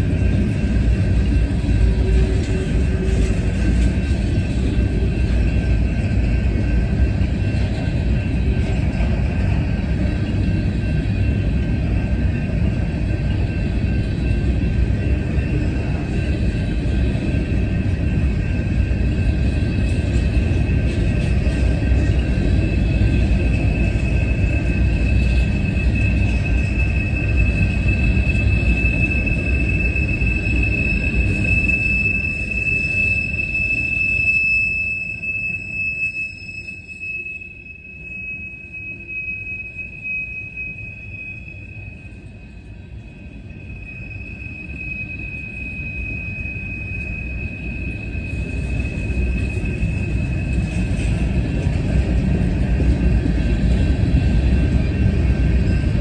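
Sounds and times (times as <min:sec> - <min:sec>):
train wheels rumbling on rails: 0:00.0 - 0:56.0
high-pitched wheel squeal: 0:10.3 - 0:56.0.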